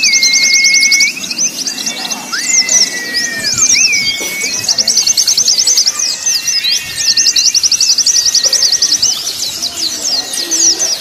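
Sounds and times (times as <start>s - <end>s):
long steady whistles: 0.0s - 10.8s
bird chattering trills: 0.0s - 11.0s.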